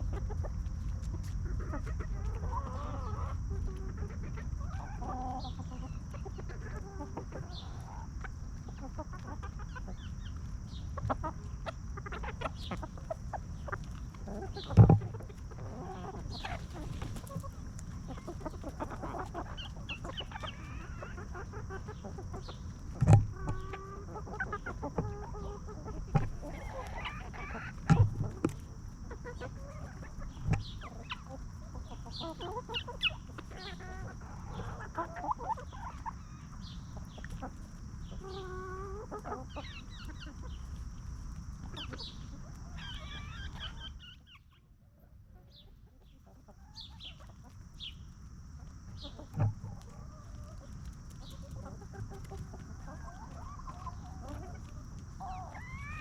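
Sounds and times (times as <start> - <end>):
hens clucking: 0.0 - 56.0.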